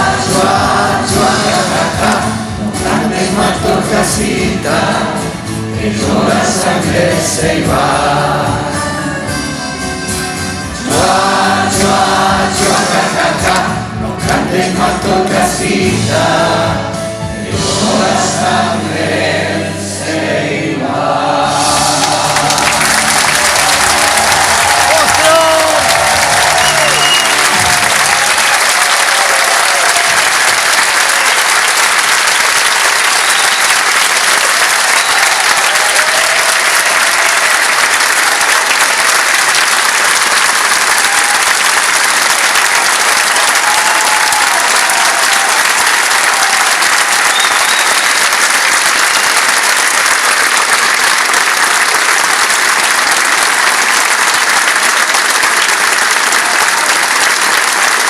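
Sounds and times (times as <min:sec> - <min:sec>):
audience applauding: 0:00.0 - 0:05.0, 0:10.9 - 0:16.3, 0:21.6 - 0:58.0.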